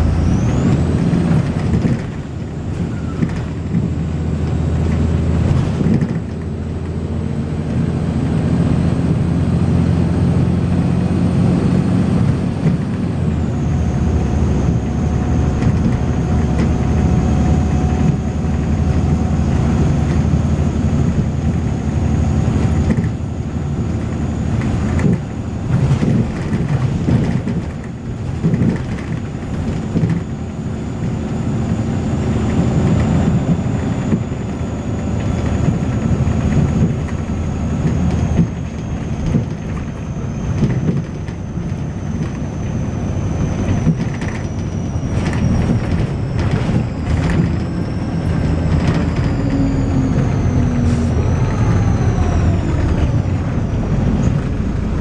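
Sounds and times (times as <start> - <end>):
bus diesel engine working hard: 0.0 - 55.0.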